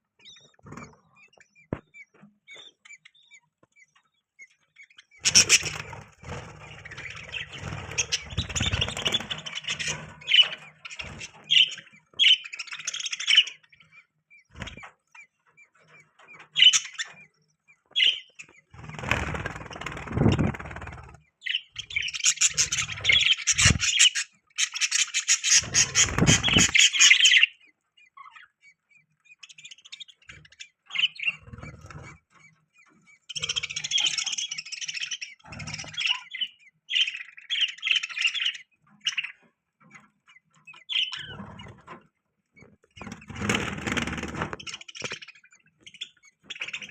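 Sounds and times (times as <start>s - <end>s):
budgerigars chirping: 0.2s - 46.9s.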